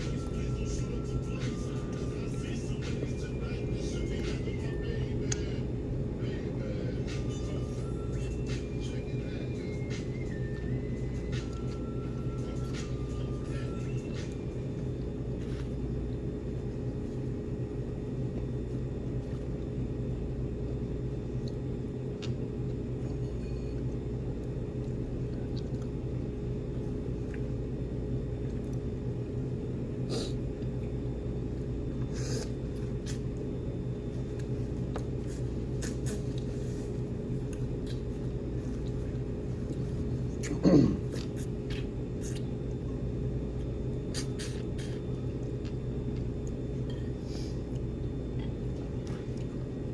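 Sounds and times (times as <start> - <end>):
low room hum: 0.0 - 49.9.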